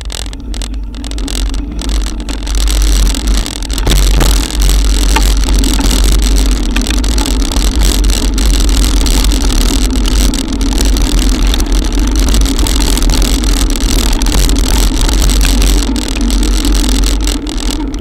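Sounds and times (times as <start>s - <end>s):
drops ticking on housing: 0.0s - 18.0s
low hum: 0.0s - 18.0s
rain and wet road noise: 0.0s - 18.0s
wind buffeting microphone: 0.6s - 18.0s.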